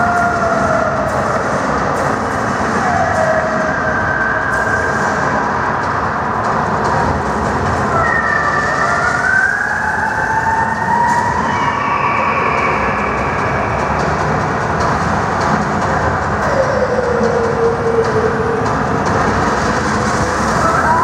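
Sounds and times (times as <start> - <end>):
loud rushing rumble: 0.0 - 21.0.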